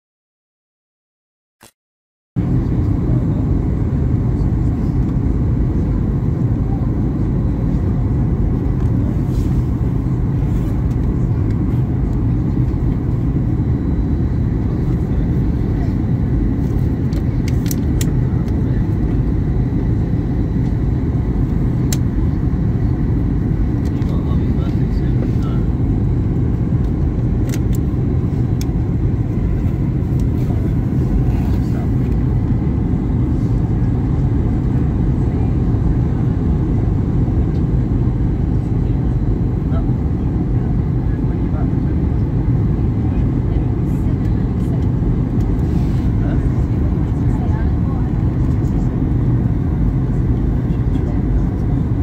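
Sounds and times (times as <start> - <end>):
airliner cabin engine noise: 2.4 - 52.0.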